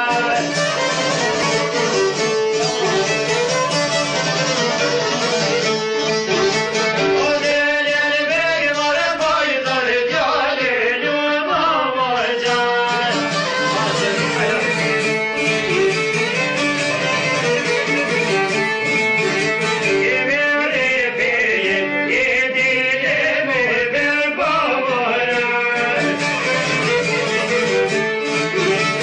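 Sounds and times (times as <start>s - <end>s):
plucked lutes folk music: 0.0s - 29.0s.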